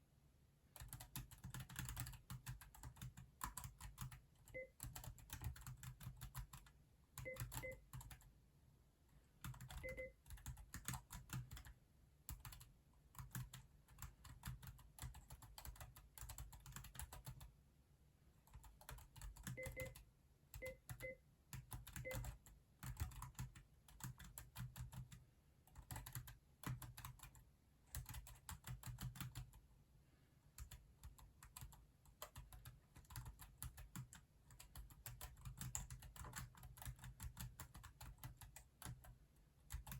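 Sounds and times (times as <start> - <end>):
mechanical keyboard typing: 0.8 - 8.3, 9.4 - 17.5, 18.4 - 20.0, 20.6 - 29.6, 30.6 - 39.9.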